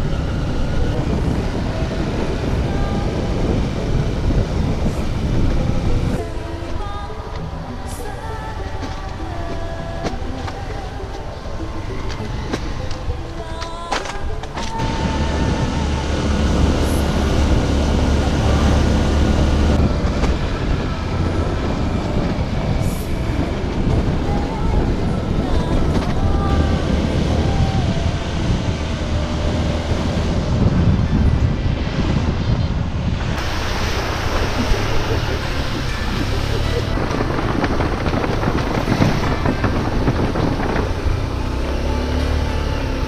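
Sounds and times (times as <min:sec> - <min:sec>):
dirt bike engine: 0:00.0 - 0:43.0
wind buffeting microphone: 0:00.0 - 0:43.0.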